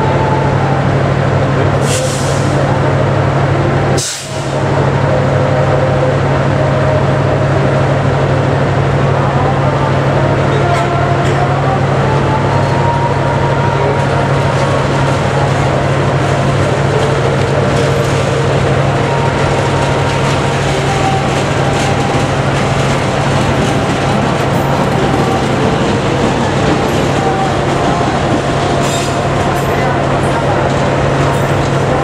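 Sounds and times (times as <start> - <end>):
locomotive engine drone: 0.0 - 32.0
train wheels rumbling on rails: 0.0 - 32.0.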